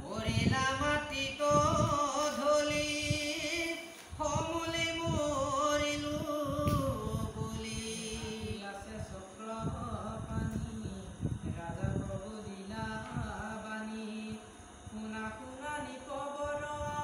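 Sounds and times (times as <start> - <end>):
man chanting: 0.0 - 17.0.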